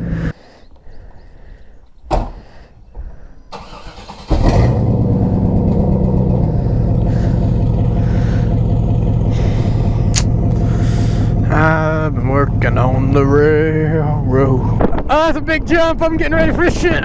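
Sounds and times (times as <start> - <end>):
truck engine starting and running: 0.0 - 0.4, 3.5 - 17.0.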